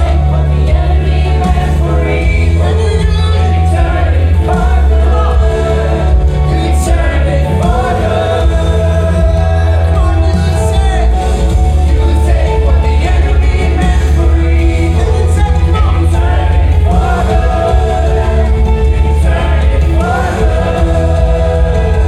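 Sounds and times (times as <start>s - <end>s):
group of voices singing: 0.0s - 22.0s
worship band with bass: 0.0s - 22.0s.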